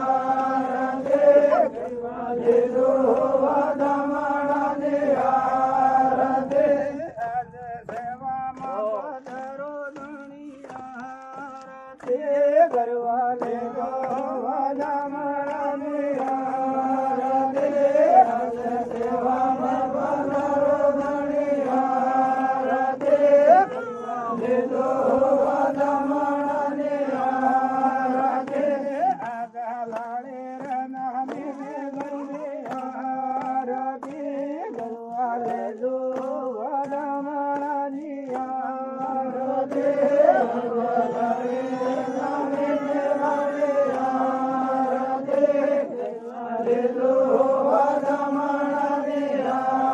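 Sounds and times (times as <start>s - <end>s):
devotional chant singing: 0.0s - 49.9s.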